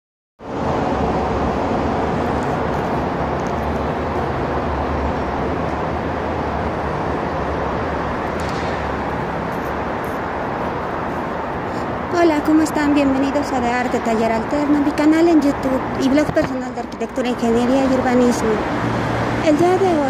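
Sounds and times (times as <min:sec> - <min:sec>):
road traffic rumble: 0:00.4 - 0:20.0.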